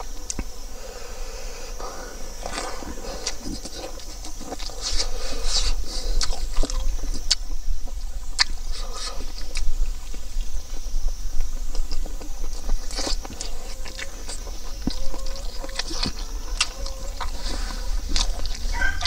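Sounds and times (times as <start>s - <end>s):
wet chewing and lip-smacking: 0.0s - 0.6s, 1.9s - 19.0s.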